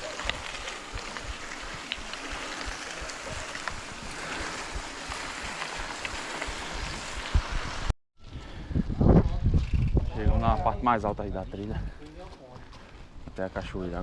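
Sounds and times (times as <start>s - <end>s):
wind noise on microphone: 0.0s - 11.9s.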